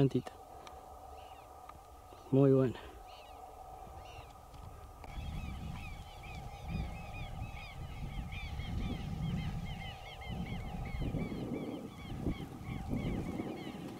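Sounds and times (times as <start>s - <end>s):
flock of birds calling: 0.0s - 13.9s
wind rumble on microphone: 0.0s - 13.9s.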